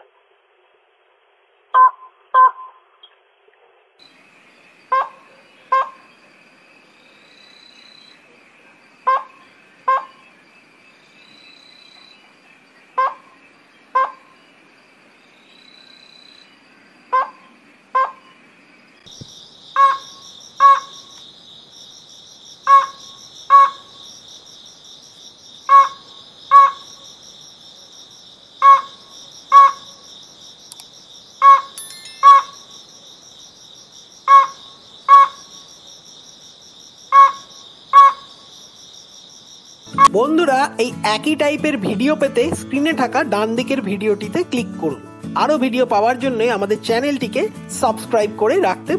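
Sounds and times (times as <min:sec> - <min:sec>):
high insect drone: 0:04.0 - 0:44.8.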